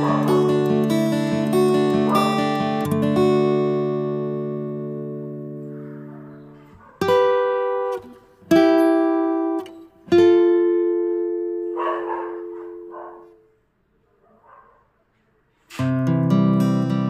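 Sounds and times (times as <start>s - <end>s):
acoustic guitar strummed chords: 0.0s - 13.4s, 15.8s - 17.0s.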